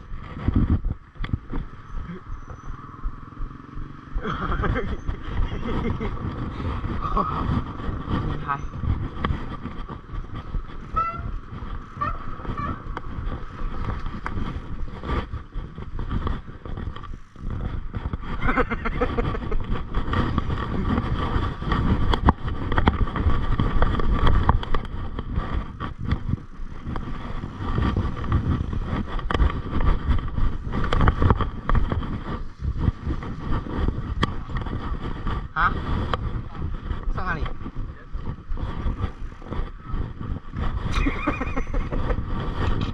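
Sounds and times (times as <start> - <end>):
bike rattling and knocking: 0.0 - 42.9
wind buffeting microphone: 0.0 - 42.9.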